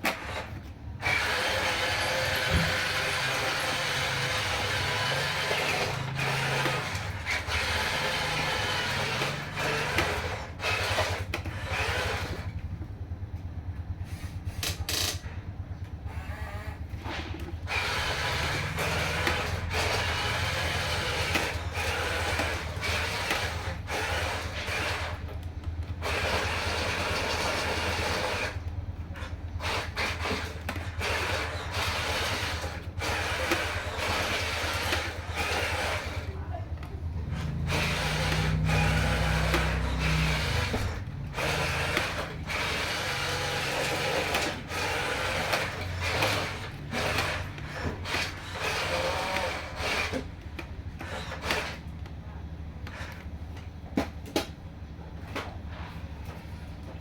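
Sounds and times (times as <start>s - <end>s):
gearbox grinding: 0.0s - 13.0s, 14.5s - 57.0s
electric motors low buzz: 0.0s - 57.0s.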